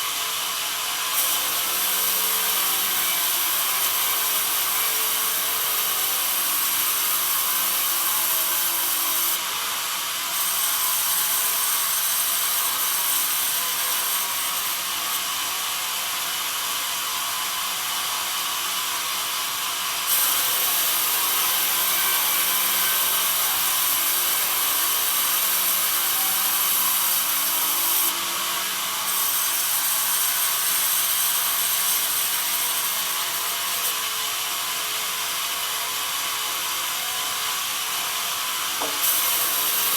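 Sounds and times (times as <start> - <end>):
bandsaw blade cutting wood: 0.0 - 17.5, 20.0 - 39.9.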